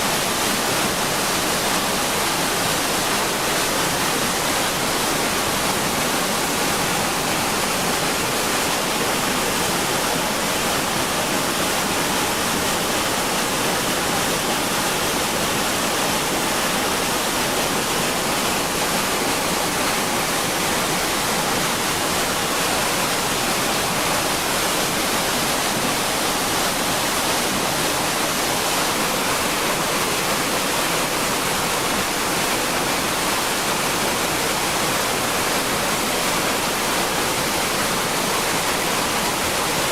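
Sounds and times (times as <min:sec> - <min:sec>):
floodwater torrent roaring: 0:00.0 - 0:39.9.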